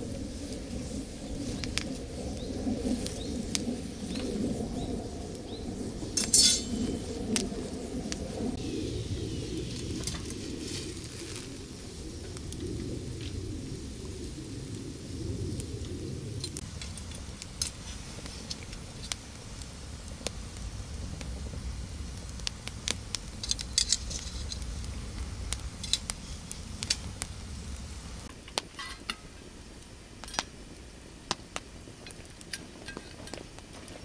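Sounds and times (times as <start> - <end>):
low rumble: 0.0 - 28.4
wood fire crackling and popping: 0.0 - 34.0.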